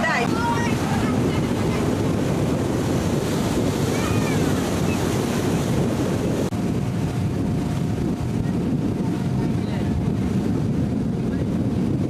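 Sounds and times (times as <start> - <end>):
water rushing against boat hull: 0.0 - 12.0
wind buffeting microphone: 0.0 - 12.0.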